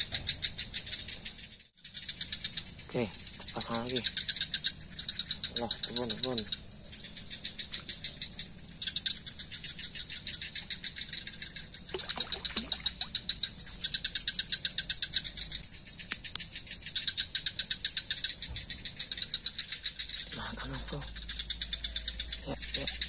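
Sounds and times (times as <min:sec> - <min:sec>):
insects trilling: 0:00.0 - 0:23.0
rapid pulsing insect call: 0:00.0 - 0:23.0.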